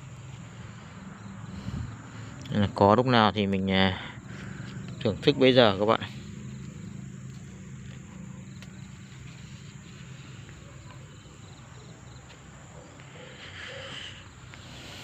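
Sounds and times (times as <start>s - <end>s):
insects chirping in trills: 0.0s - 15.0s
steady low hum: 0.0s - 15.0s.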